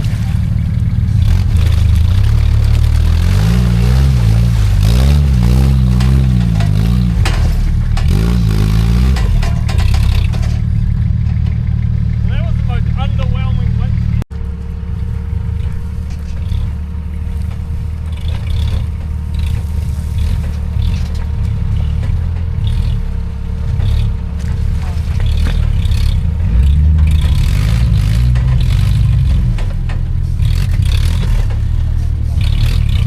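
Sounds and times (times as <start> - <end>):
vehicle engine revving: 0.0 - 33.0
vehicle knocks and rattles: 0.0 - 33.0.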